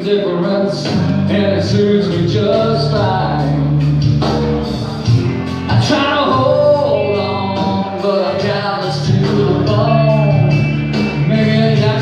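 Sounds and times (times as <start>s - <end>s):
loud backing music: 0.0s - 12.0s
man singing into a microphone: 0.0s - 12.0s.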